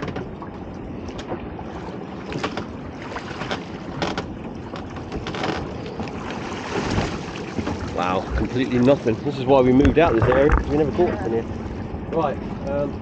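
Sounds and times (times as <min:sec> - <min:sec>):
water splashing and streaming: 0:00.0 - 0:13.0
wind rumble on microphone: 0:00.0 - 0:13.0.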